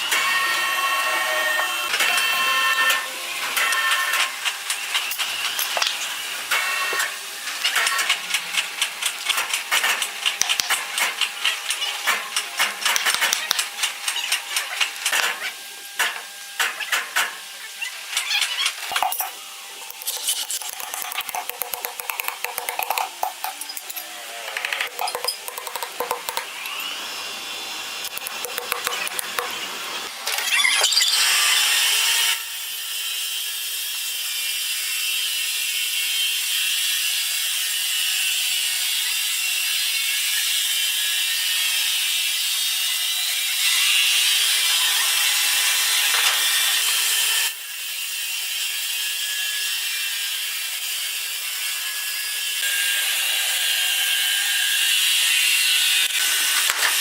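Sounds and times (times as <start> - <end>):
power saw cutting wood: 0.0 - 57.0.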